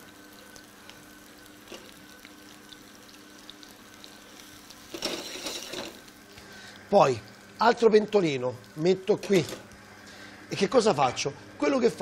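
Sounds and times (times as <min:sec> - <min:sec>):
vegetables sizzling in oil: 0:00.0 - 0:10.6
small crackles of frying: 0:00.0 - 0:12.0.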